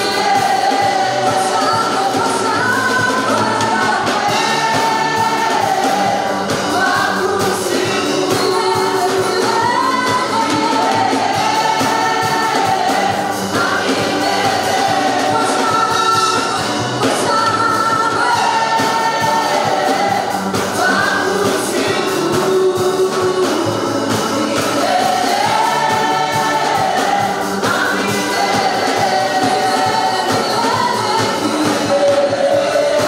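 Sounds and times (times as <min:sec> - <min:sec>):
group singing gospel: 0:00.0 - 0:33.0.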